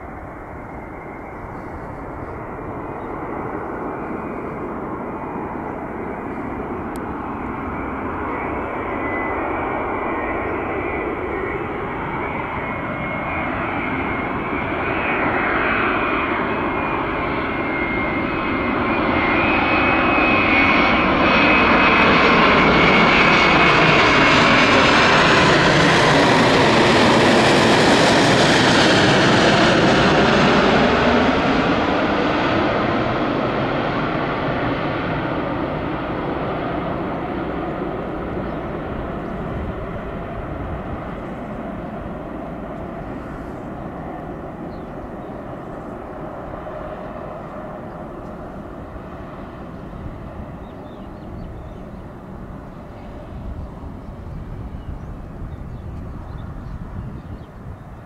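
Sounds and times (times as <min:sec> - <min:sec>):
airliner jet engines: 0:00.0 - 0:58.0.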